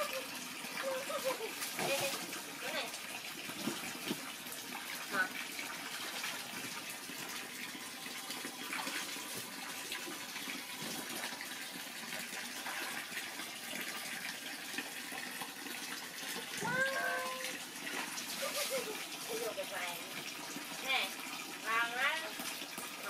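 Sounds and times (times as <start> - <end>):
water pouring into pool: 0.0 - 23.0.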